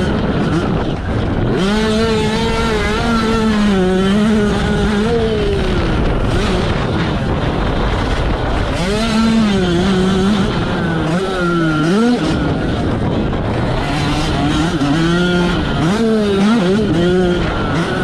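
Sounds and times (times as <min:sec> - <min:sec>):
motocross engine revving: 0:00.0 - 0:18.0
track noise: 0:00.0 - 0:18.0
wind noise: 0:00.0 - 0:18.0.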